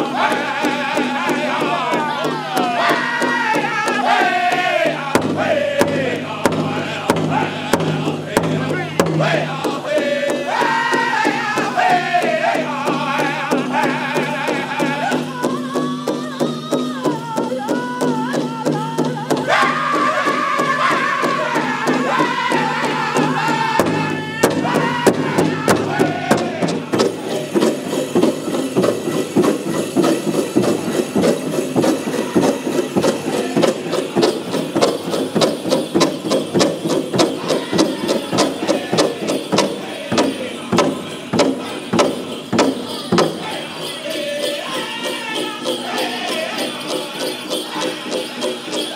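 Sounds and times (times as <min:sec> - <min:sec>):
large drum steady beat: 0:00.0 - 0:48.9
men singing high in unison: 0:00.0 - 0:48.9.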